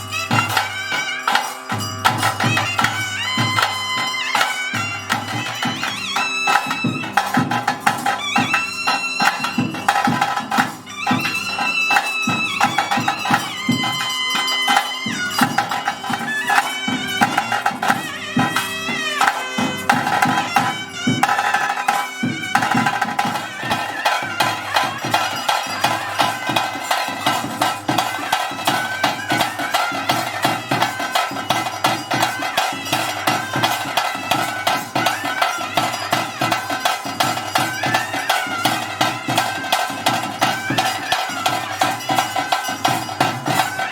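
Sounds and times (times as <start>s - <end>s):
drums: 0.0s - 43.9s
reedy wind pipe melody: 0.0s - 43.9s.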